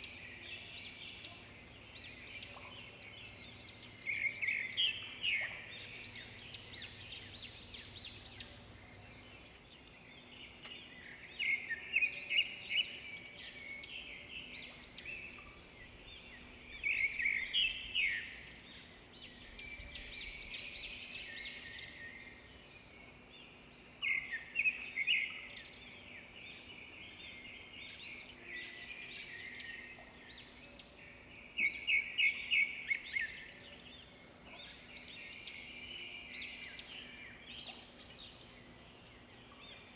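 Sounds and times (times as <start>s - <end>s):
forest birds calling: 0.0s - 39.9s.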